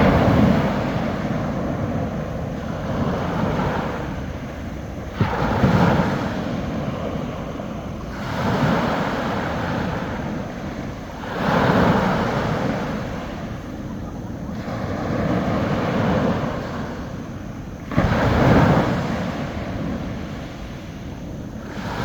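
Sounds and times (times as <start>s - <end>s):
small waves breaking on shore: 0.0s - 22.0s.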